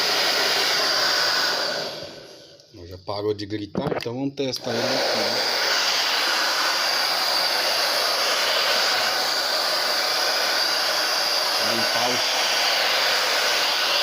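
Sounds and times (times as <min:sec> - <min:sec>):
hair dryer running: 0:00.0 - 0:02.6, 0:04.6 - 0:14.0.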